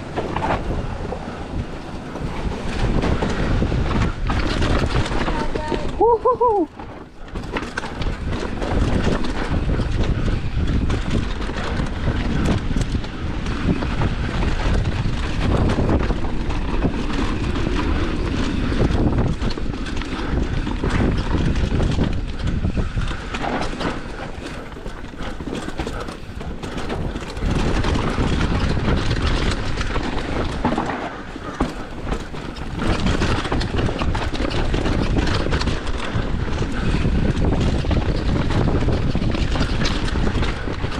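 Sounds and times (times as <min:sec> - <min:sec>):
bike chain and frame rattling: 0:00.0 - 0:40.9
tyres on rock and dirt: 0:00.0 - 0:40.9.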